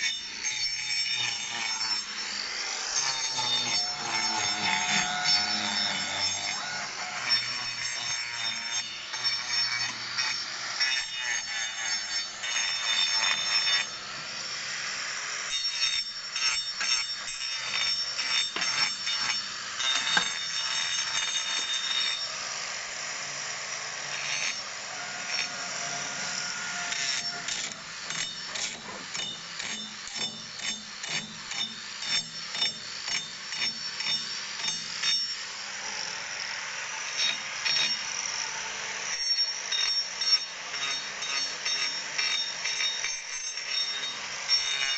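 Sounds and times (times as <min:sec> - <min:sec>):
angle grinder motor whining: 0:00.0 - 0:44.9.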